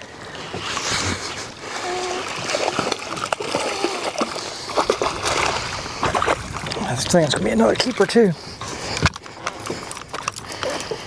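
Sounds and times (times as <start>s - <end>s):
fish splashing in water: 0.3s - 11.0s.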